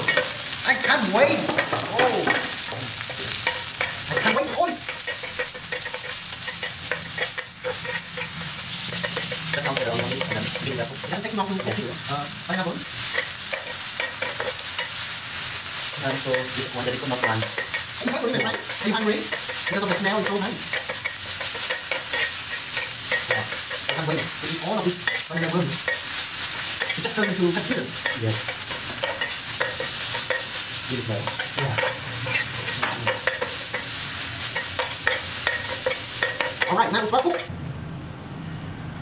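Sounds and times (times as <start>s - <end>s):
spatula scraping pan: 0.0s - 37.5s
oil sizzling and crackling: 0.0s - 38.1s.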